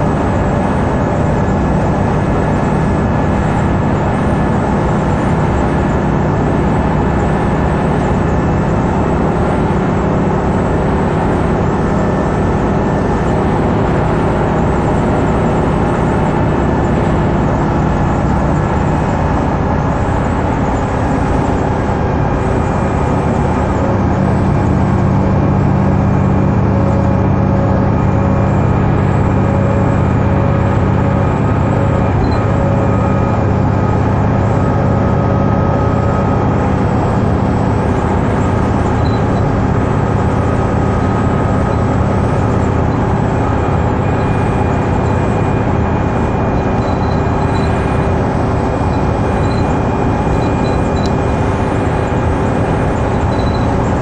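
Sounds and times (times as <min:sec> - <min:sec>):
bus diesel engine drone: 0:00.0 - 0:54.0
tyre and road noise: 0:00.0 - 0:54.0.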